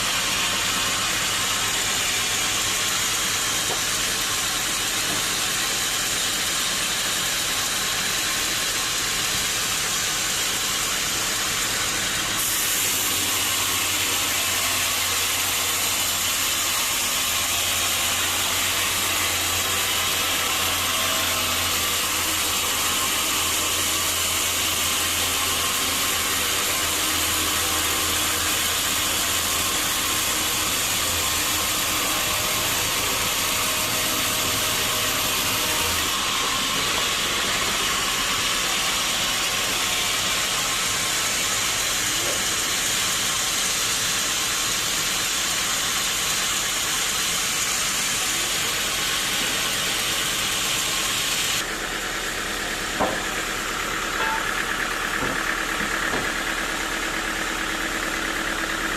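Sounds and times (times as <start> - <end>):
sawmill machinery hissing: 0.0 - 58.9.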